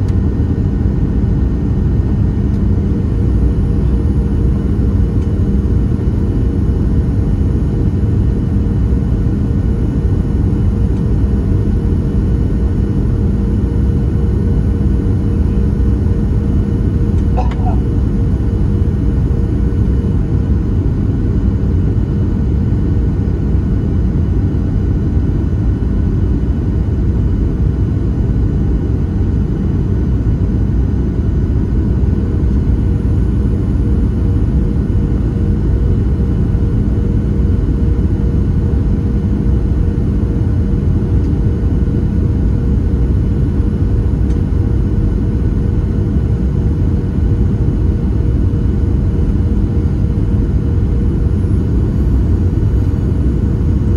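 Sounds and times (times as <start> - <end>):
airplane cabin rumble: 0.0 - 53.9
droning hum: 0.0 - 53.9.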